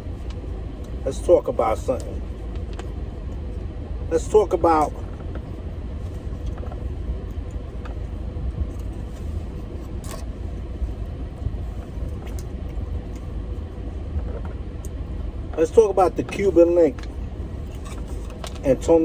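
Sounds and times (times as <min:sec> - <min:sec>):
car cabin rumble: 0:00.0 - 0:19.0.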